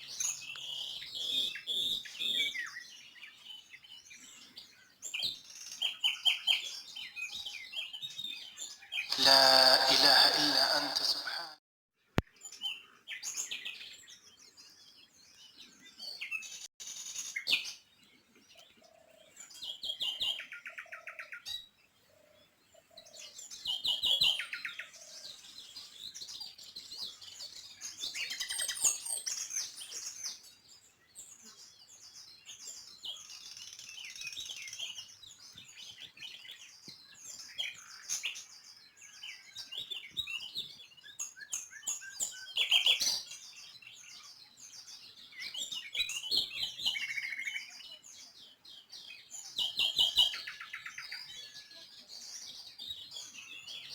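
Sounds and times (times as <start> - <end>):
songbirds chirping and twittering: 0.0 - 11.3, 12.0 - 53.9.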